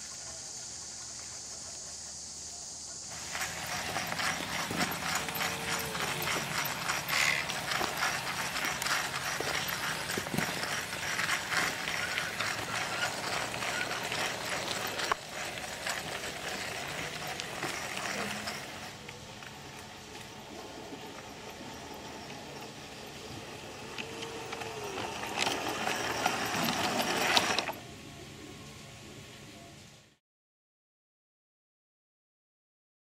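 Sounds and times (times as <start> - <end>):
model train gear clatter: 0.0 - 27.9.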